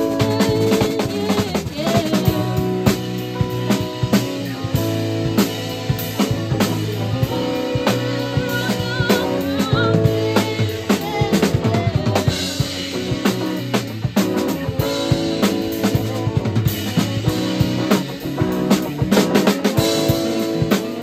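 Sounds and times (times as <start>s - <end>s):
drum kit beat: 0.0s - 21.0s
electric guitar: 0.0s - 21.0s
jazz band playing: 0.0s - 21.0s.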